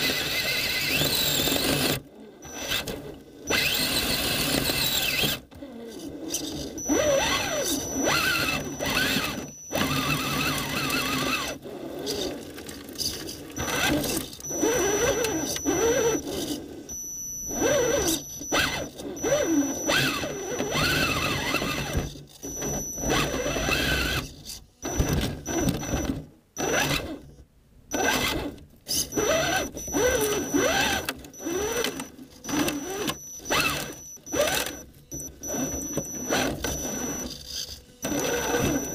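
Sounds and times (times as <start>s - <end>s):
toy car electric motor whining: 0.0s - 38.9s.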